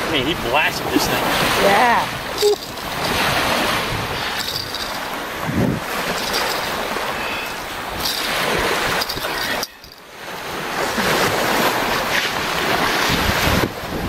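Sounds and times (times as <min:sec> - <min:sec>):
surf washing on shore: 0:00.0 - 0:14.0
wind buffeting microphone: 0:00.0 - 0:14.0.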